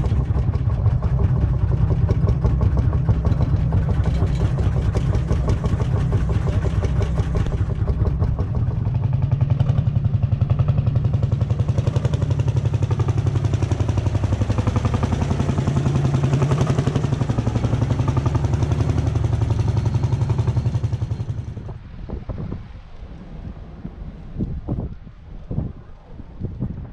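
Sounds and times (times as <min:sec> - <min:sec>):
two-stroke engine running: 0:00.0 - 0:21.7.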